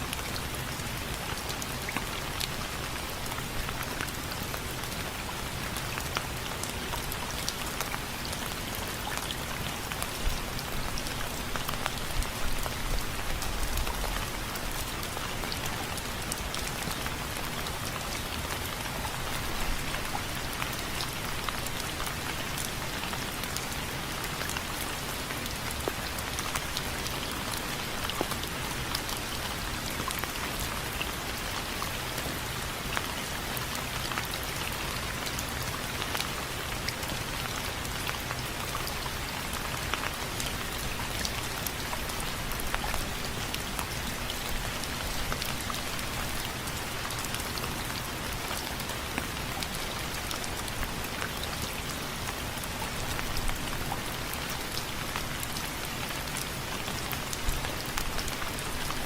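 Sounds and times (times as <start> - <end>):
rainfall hiss: 0.0 - 59.0.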